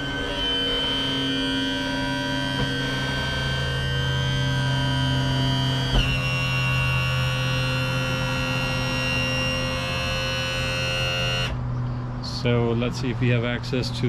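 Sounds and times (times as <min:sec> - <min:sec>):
electric pump humming: 0:00.0 - 0:11.6.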